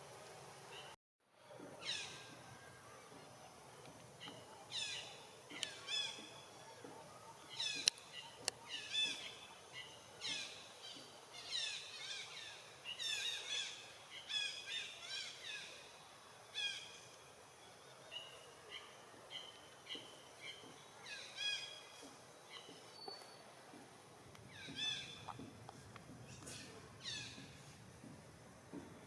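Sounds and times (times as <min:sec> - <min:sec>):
outdoor background noise: 0:00.0 - 0:29.0.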